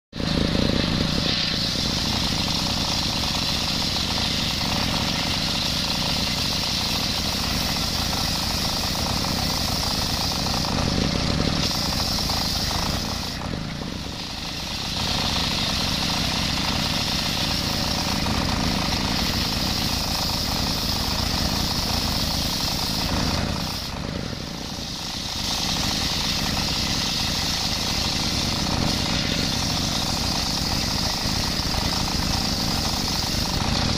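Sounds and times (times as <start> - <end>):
circular saw cutting wood: 0.1 - 33.9
saw engine drone: 0.2 - 33.9.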